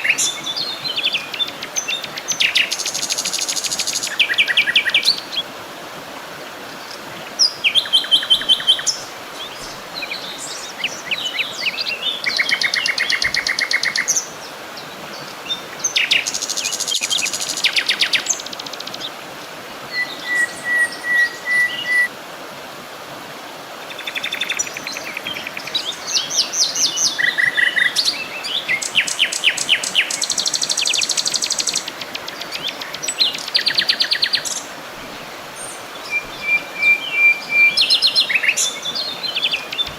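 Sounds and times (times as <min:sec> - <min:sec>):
songbirds singing and calling: 0:00.0 - 0:05.5, 0:06.4 - 0:22.1, 0:23.8 - 0:39.9
background hiss: 0:00.0 - 0:39.9.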